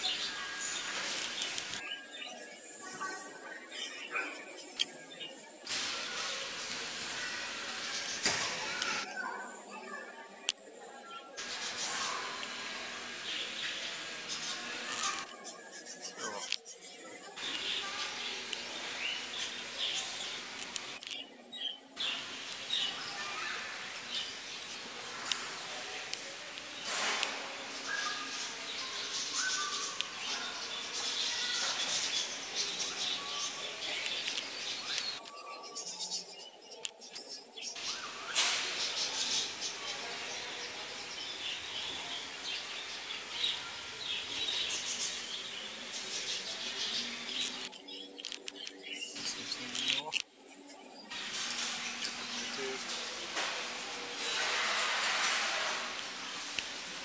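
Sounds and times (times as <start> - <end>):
parakeets chirping and chattering: 0.0 - 9.1, 11.4 - 50.4, 51.0 - 57.0.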